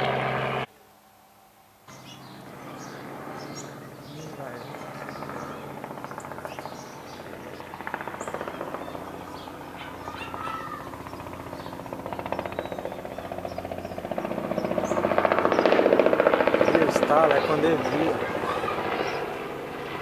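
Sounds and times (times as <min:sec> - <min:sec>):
helicopter rotor chopping: 0:00.0 - 0:00.7, 0:02.0 - 0:20.0
small birds chirping: 0:01.9 - 0:20.0.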